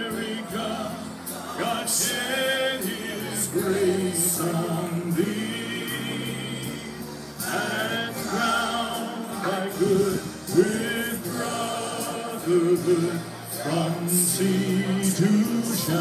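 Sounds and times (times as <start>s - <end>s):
person singing with accompaniment: 0.0s - 16.0s.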